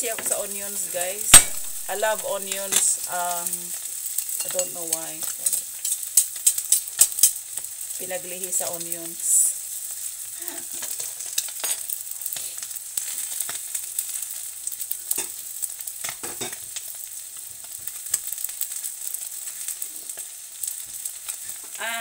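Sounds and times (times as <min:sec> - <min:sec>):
oil popping and crackling: 0:00.0 - 0:22.0
omelette sizzling in frying pan: 0:00.0 - 0:22.0.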